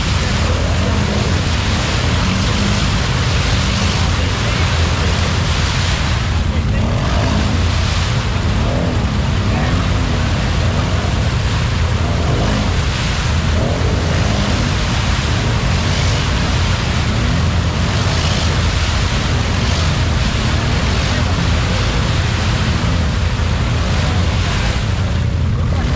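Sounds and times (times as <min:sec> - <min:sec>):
engine running hard: 0:00.0 - 0:25.9
tyres splashing through mud: 0:00.0 - 0:25.9.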